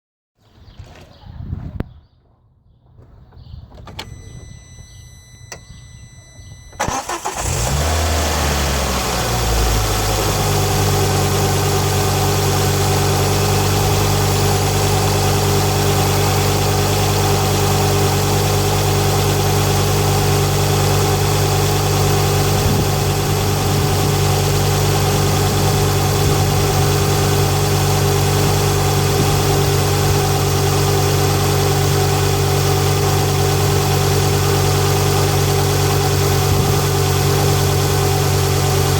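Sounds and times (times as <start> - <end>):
car engine starting and idling: 3.7 - 38.9.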